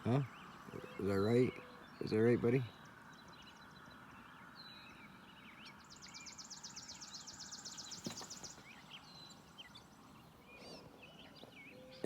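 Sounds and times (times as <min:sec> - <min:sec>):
faint outdoor rush: 0:00.0 - 0:12.0
wild birds chirping: 0:00.0 - 0:12.0.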